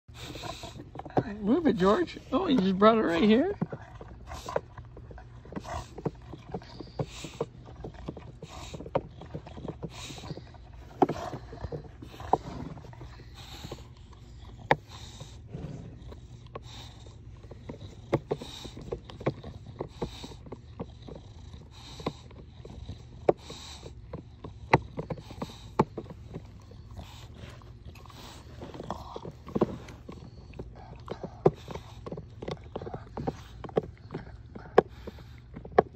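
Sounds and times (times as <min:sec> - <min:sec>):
dog breathing: 0:00.0 - 0:35.9
teeth clicking on hard plastic: 0:00.2 - 0:35.9.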